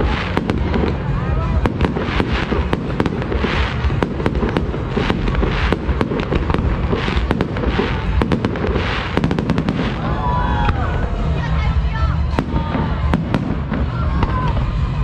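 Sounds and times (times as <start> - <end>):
fireworks cracks and bangs: 0.0 - 15.0
low rumble: 0.0 - 15.0.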